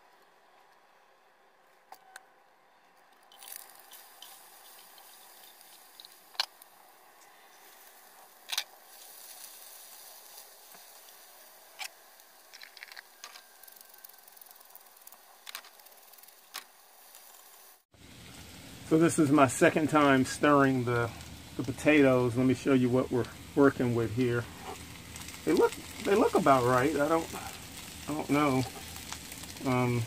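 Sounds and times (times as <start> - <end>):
potatoes sizzling in a pan: 3.3 - 30.0.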